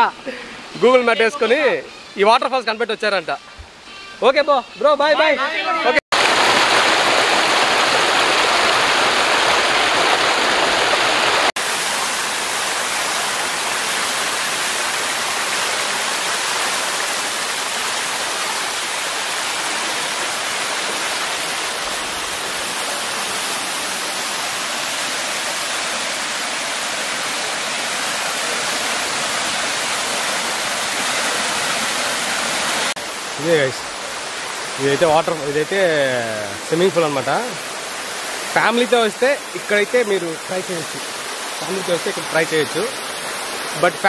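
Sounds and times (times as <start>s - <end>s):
waterfall rushing over rocks: 5.0s - 44.0s.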